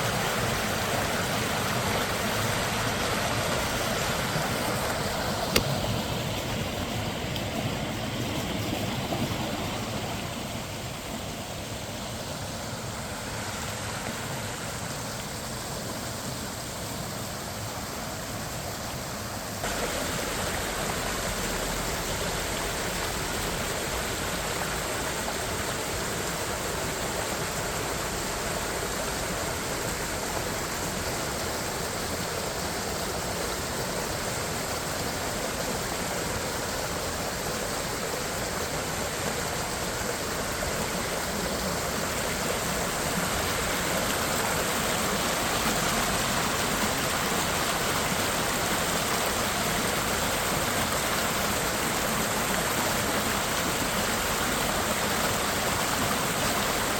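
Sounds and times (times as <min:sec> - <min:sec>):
creek water rushing and splashing: 0:00.0 - 0:56.9.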